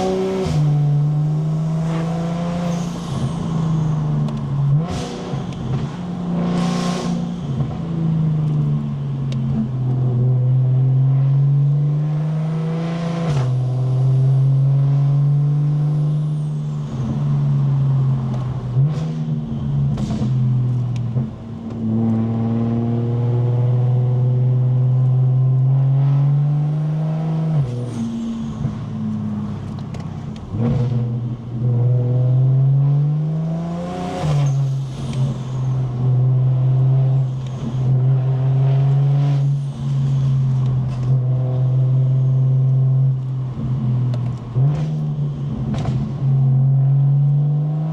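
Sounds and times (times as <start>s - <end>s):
car engine revving through gears: 0.0s - 47.9s.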